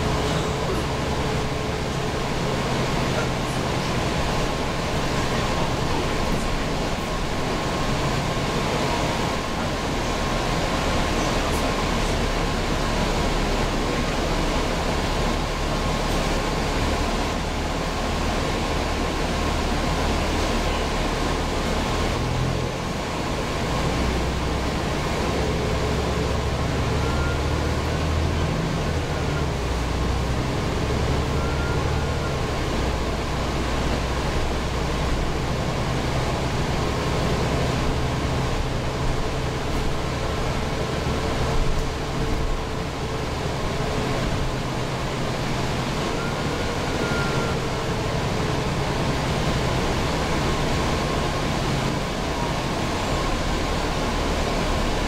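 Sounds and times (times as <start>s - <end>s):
diesel bus engine running: 0.0s - 55.0s
road and ventilation noise: 0.0s - 55.0s.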